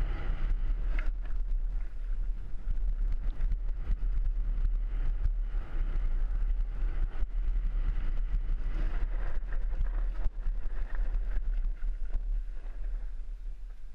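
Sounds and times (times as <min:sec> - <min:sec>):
bike and stone rattles: 0:00.0 - 0:13.9
wind buffeting microphone: 0:00.0 - 0:13.9.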